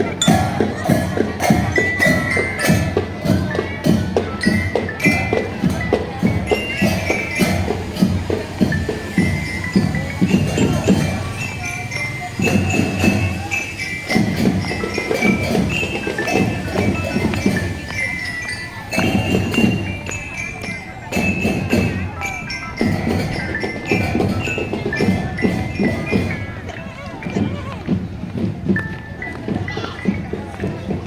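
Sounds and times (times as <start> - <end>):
glockenspiel melody: 0.0 - 31.0
marching drums: 0.0 - 31.0.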